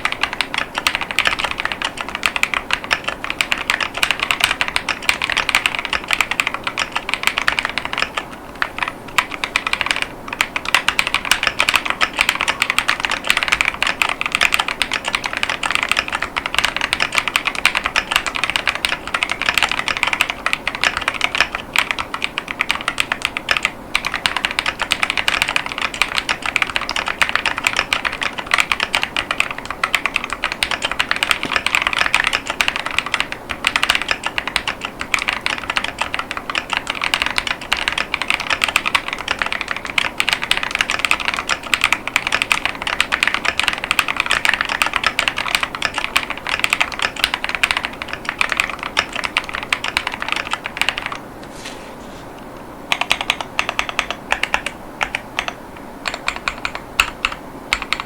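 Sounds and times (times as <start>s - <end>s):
typing on mechanical keyboard: 0.0s - 51.2s, 52.9s - 58.0s.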